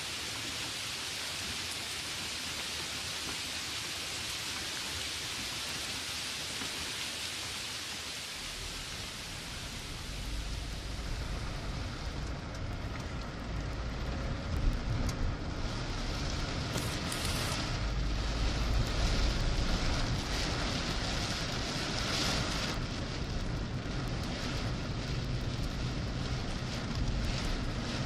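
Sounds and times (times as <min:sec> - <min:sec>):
car driving on wet road: 0:00.0 - 0:28.0
rain and tyre spray hiss: 0:00.0 - 0:28.0.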